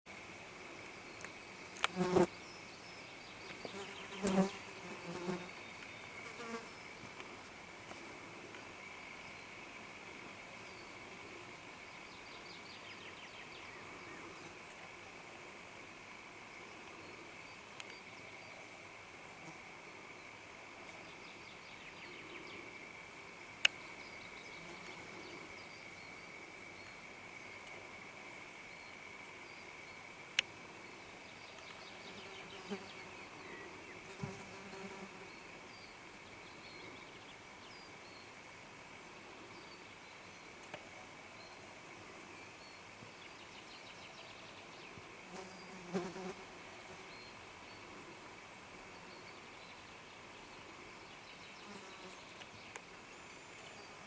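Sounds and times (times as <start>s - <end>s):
insects buzzing: 0.1s - 54.0s.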